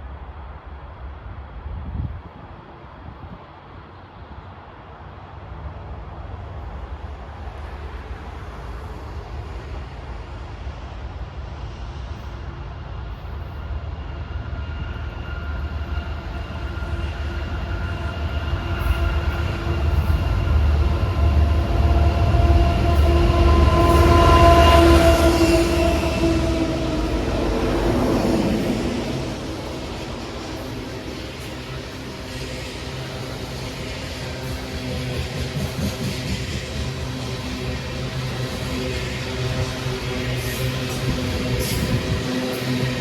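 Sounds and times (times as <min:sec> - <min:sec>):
train deep rumble: 0:00.0 - 0:43.0
train whine: 0:00.0 - 0:43.0.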